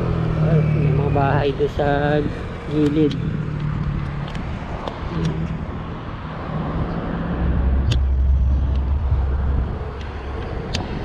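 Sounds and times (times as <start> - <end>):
road traffic: 0.0 - 11.0
vehicle engine running: 0.0 - 11.0.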